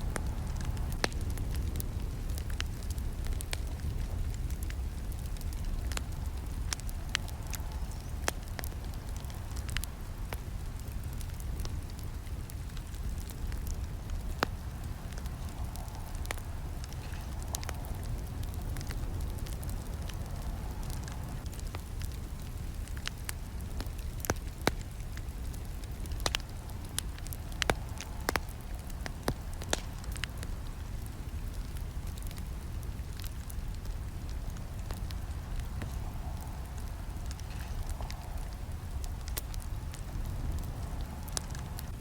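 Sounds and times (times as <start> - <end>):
burning wood crackling: 0.0 - 42.0
rumble of flames: 0.0 - 42.0.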